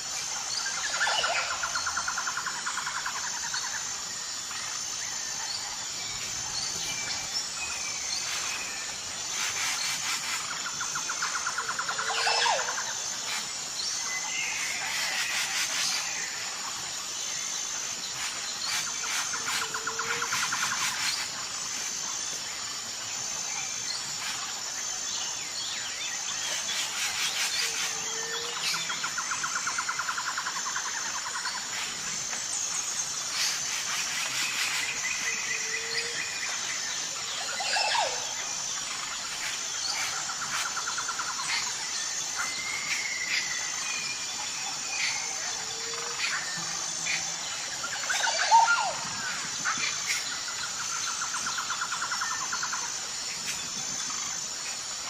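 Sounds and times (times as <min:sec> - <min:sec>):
birds calling and chirping: 0:00.0 - 0:55.0
high insect drone: 0:00.0 - 0:55.0.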